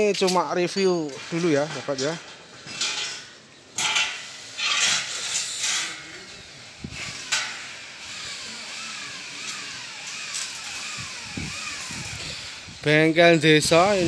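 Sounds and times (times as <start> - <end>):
arc welding hissing and crackling: 0.0 - 14.0.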